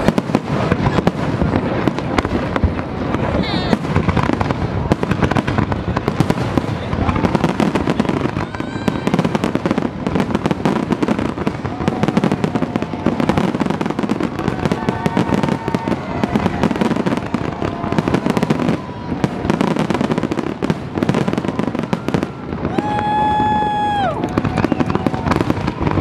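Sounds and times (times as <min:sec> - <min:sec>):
firework bangs and crackling: 0:00.0 - 0:26.0.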